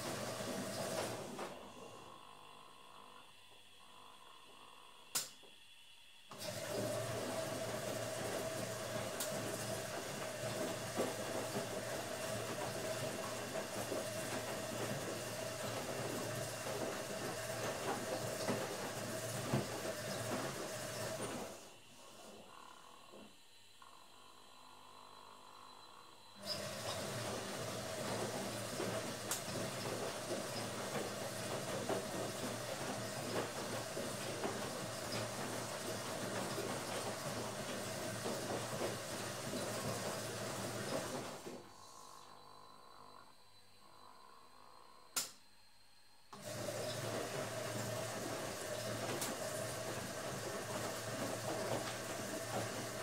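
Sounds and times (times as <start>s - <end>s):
washing machine running: 0.0s - 23.6s, 24.3s - 43.3s, 46.3s - 53.0s.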